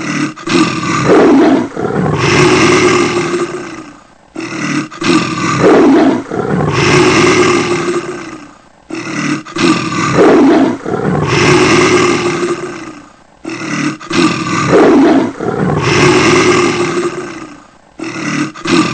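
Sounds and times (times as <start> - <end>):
rough animal roars: 0.0 - 18.9.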